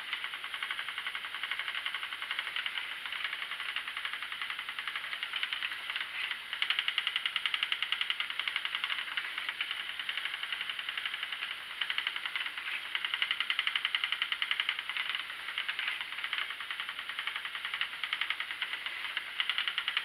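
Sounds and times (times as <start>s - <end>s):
spinning wheel clicking rapidly: 0.0s - 20.0s.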